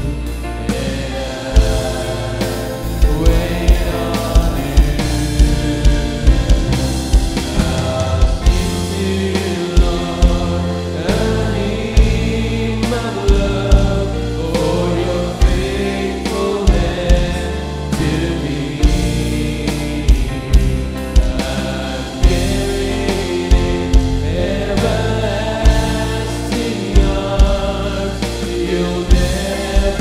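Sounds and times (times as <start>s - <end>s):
band with drums bass guitars: 0.0s - 30.0s
man singing: 0.0s - 30.0s
voices singing along: 0.0s - 30.0s.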